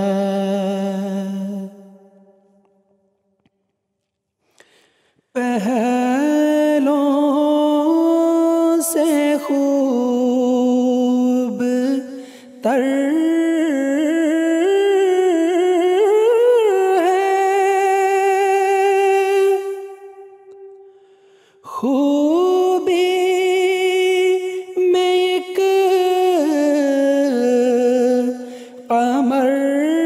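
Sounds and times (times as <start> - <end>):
man singing unaccompanied: 0.0 - 2.1, 5.4 - 20.8, 21.7 - 30.0.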